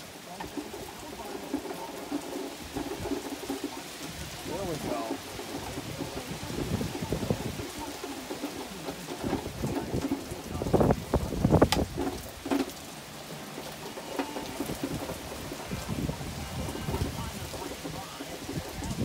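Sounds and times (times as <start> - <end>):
steady rain: 0.0 - 19.0
wind buffeting microphone: 0.5 - 13.3, 14.4 - 19.0.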